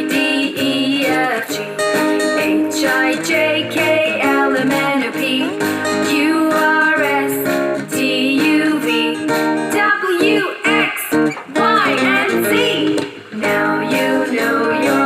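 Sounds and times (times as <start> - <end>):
acoustic guitar: 0.0 - 15.0
children's song: 0.0 - 15.0.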